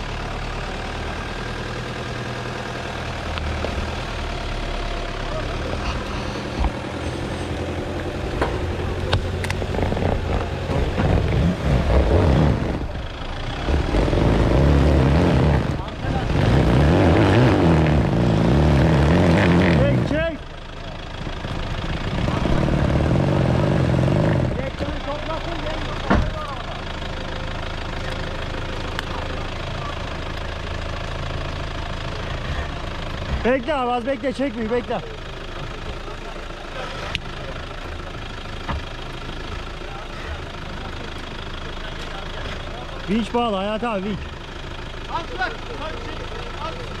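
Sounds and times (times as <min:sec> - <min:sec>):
diesel engine under load: 0:00.0 - 0:47.0.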